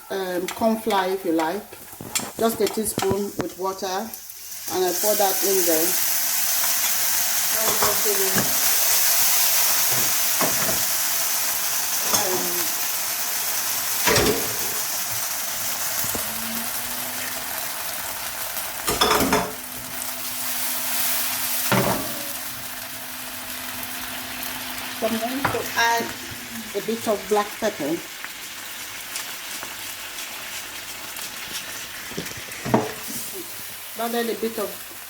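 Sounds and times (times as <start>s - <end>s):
gravy sizzling in a frying pan: 0.0s - 35.0s.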